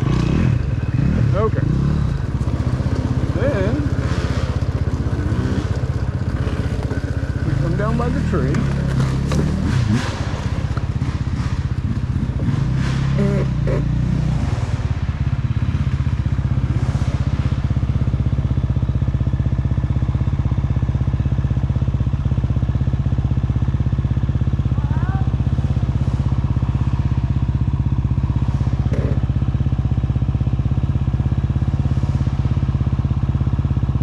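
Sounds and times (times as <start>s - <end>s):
clatter: 0.0s - 34.0s
dirt bike engine running: 0.0s - 34.0s.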